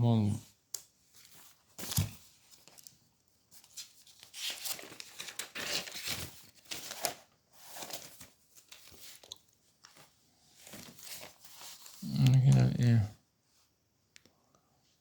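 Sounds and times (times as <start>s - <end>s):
rustling and crinkling: 0.5s - 12.9s.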